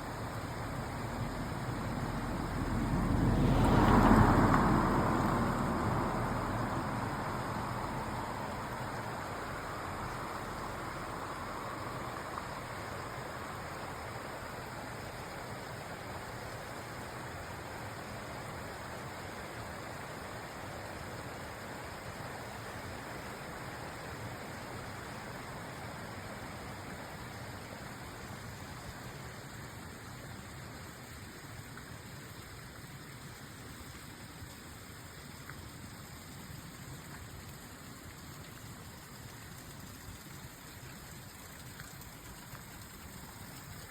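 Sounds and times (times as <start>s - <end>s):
stream running water: 0.0s - 43.9s.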